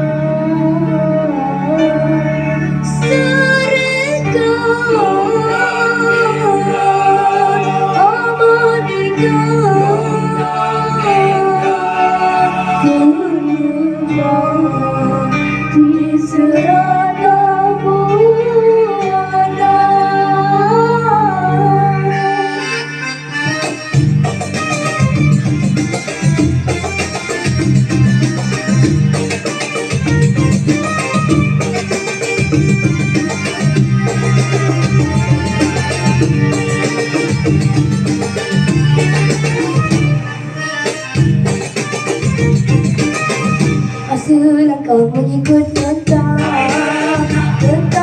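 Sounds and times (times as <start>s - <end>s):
traditional-style song: 0.0s - 48.0s.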